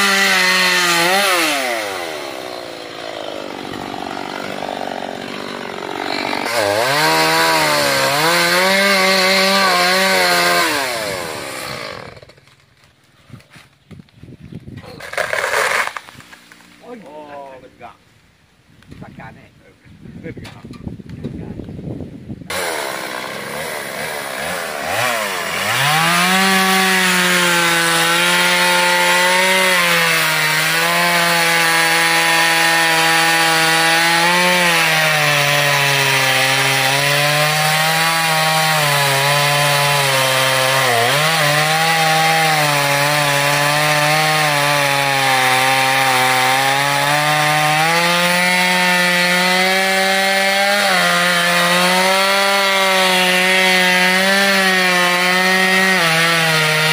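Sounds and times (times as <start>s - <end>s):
chainsaw cutting wood: 0.0s - 12.9s, 15.0s - 16.9s, 22.5s - 56.9s.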